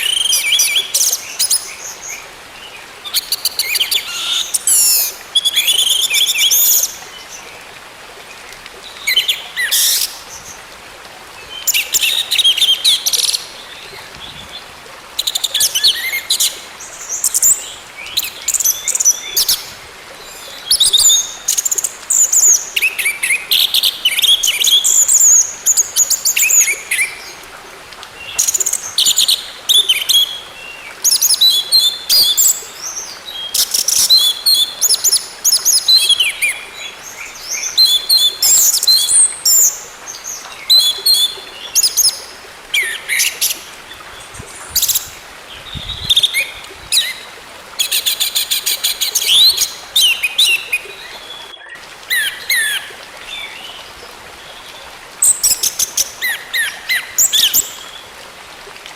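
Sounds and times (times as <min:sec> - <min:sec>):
faint steady hiss: 0:00.0 - 0:58.9.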